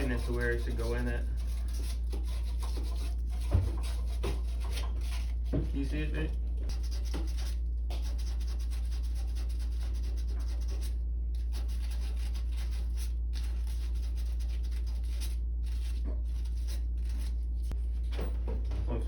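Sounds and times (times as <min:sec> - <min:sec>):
sandpaper rubbing on pipe: 0:00.0 - 0:17.8
steady low hum: 0:00.0 - 0:19.0.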